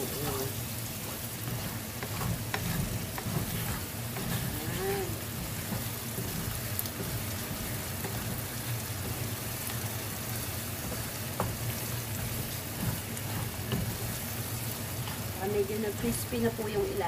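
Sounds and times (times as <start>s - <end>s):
spatula scraping and tapping pan: 0.0s - 16.4s
food sizzling in a frying pan: 0.0s - 17.0s.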